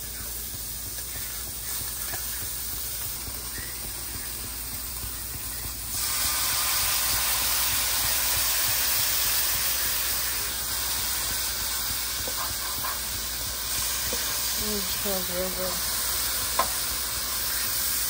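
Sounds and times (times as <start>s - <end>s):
food sizzling in pot: 0.0s - 18.0s.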